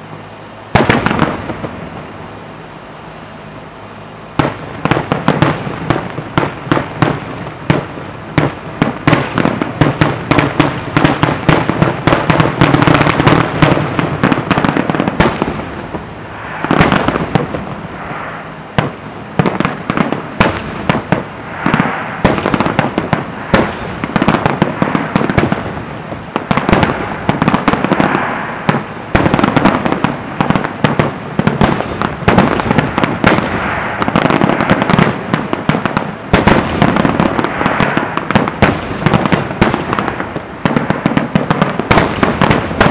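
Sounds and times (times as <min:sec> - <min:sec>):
fireworks bangs and crackles: 0:00.0 - 0:03.5, 0:04.3 - 0:42.9.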